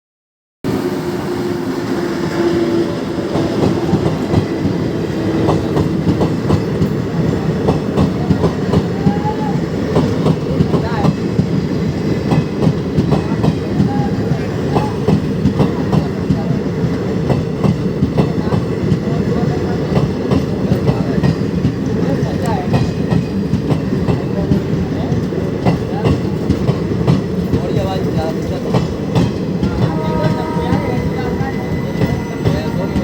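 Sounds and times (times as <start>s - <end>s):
train rumbling on rails: 0.6s - 33.0s.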